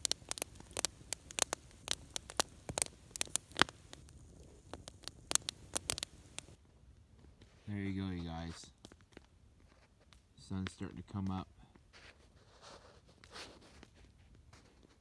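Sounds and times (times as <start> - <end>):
campfire logs crackling and popping: 0.0 - 12.4.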